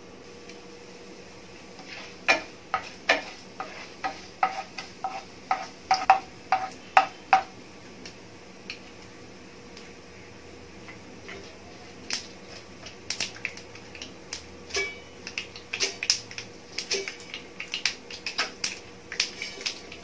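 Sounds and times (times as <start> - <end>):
seeds popping in hot oil: 2.2 - 10.0, 10.8 - 20.0.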